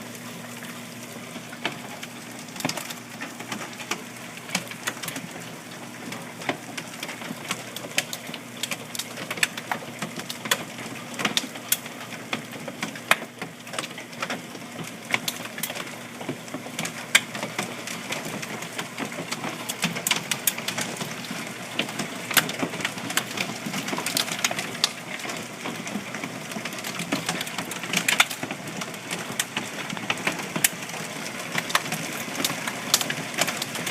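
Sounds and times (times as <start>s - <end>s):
hiss of falling rain and ice: 0.0s - 33.9s
hailstones clacking: 1.5s - 33.9s.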